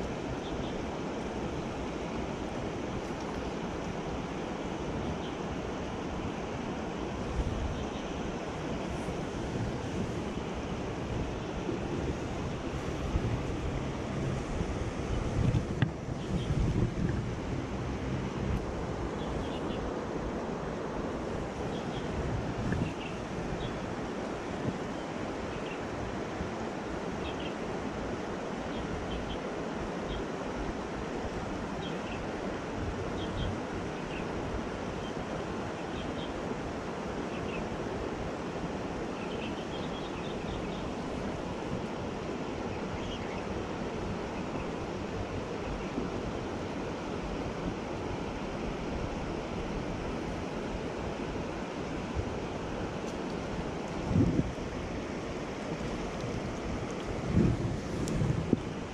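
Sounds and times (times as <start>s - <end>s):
water rushing over rocks: 0.0s - 35.8s, 40.8s - 58.9s.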